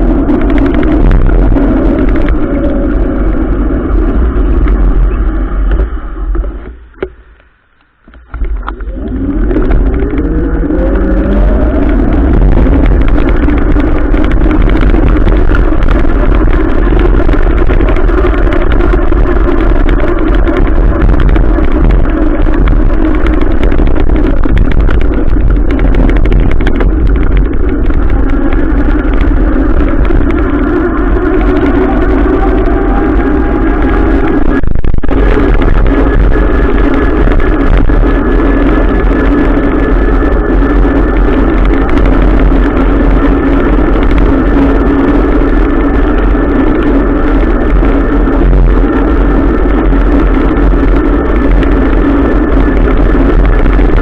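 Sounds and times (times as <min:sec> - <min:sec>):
motorcycle engine rumble: 0:00.0 - 0:54.0.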